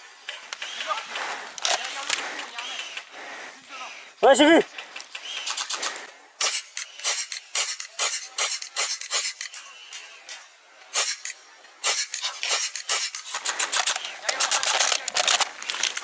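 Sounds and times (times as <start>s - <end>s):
sharp crunching clicks: 0.2s - 3.1s, 4.7s - 16.0s.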